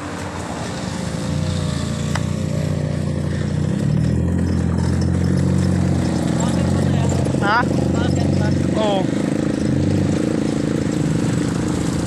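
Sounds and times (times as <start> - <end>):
car engine passing on gravel: 0.0 - 12.0.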